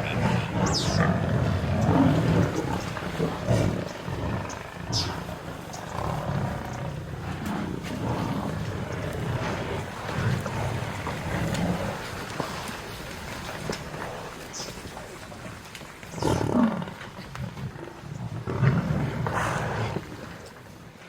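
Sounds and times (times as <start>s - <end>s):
lions growling: 0.0s - 21.0s.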